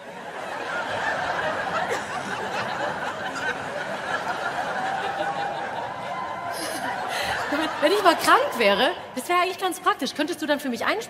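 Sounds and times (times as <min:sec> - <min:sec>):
studio audience laughing: 0:00.0 - 0:08.9.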